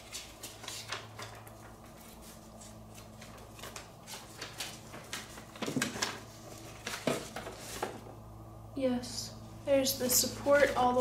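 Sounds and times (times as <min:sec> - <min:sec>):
paper rustling: 0:00.0 - 0:08.1, 0:10.0 - 0:11.0
steady low hum: 0:00.0 - 0:11.0.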